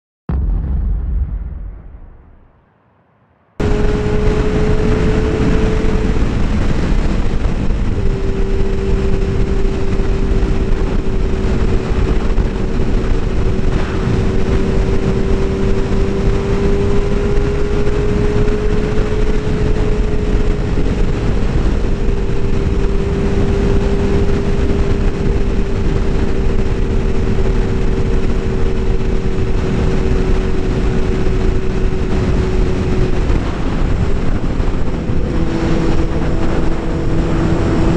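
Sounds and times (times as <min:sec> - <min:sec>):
motorcycle engine drone: 0:00.3 - 0:37.9
wind rush over microphone: 0:03.6 - 0:37.9.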